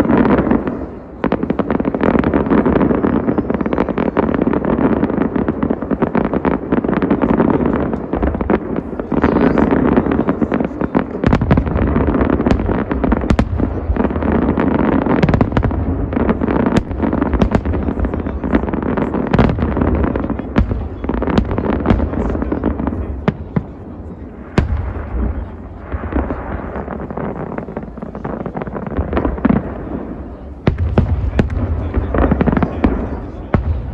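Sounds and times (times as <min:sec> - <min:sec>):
fireworks crackling and booming: 0:00.0 - 0:33.9
sharp firework bangs: 0:00.0 - 0:33.9.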